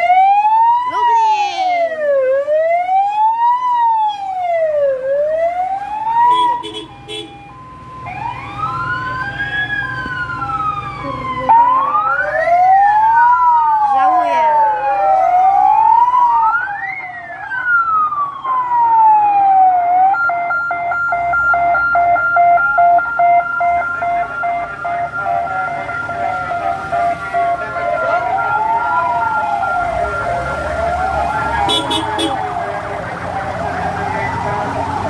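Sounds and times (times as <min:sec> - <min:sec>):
fast pulsing siren tone: 0:00.0 - 0:35.0
fire engine sirens wailing: 0:00.0 - 0:35.0.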